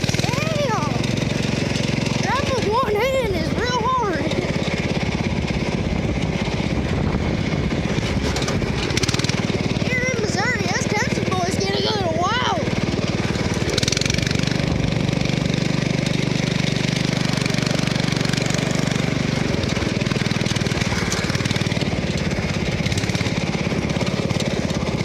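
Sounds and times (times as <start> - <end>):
lawn mower engine chugging: 0.0 - 25.0.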